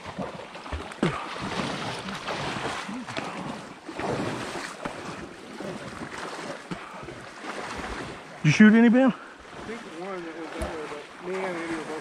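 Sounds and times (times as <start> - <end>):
shallow water sloshing and splashing: 0.0 - 12.0.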